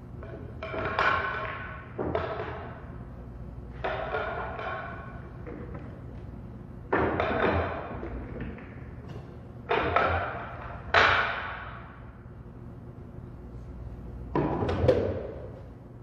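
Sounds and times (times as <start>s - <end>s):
pool balls clacking: 0.0s - 3.1s, 3.7s - 12.1s, 14.3s - 15.7s.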